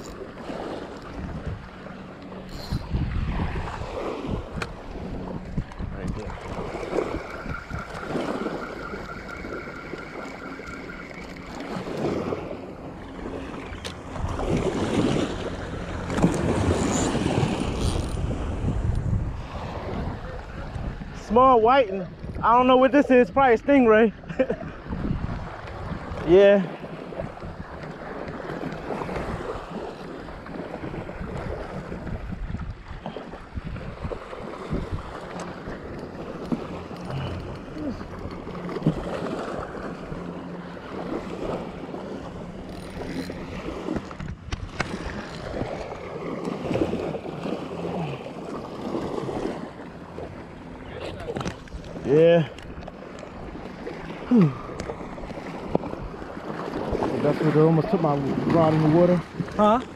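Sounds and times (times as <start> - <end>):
small waves washing onto sand: 0.0 - 59.9
wind buffeting microphone: 0.0 - 59.9.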